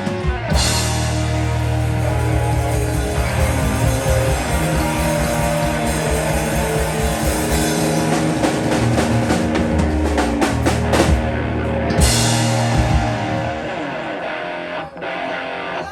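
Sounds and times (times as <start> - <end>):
rock band playing: 0.0 - 15.9
drum hits: 0.5 - 11.4, 12.0 - 13.8.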